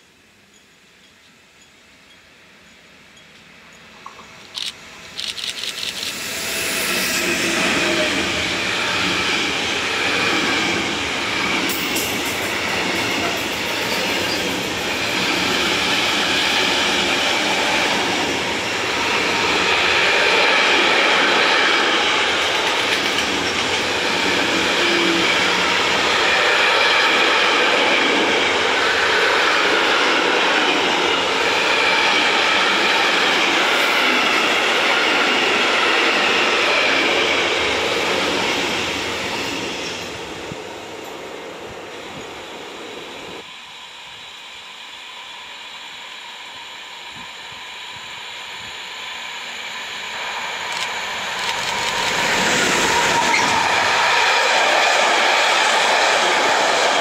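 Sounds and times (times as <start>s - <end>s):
electric locomotive passing: 0.0s - 57.0s.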